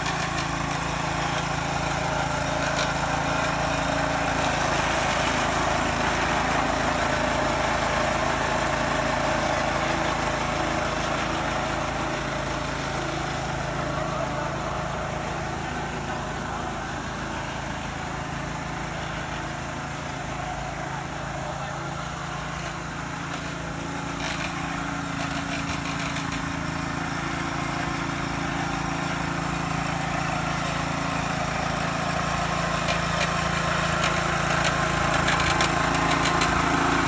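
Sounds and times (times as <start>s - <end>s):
grass cutter petrol engine running: 0.0s - 37.0s.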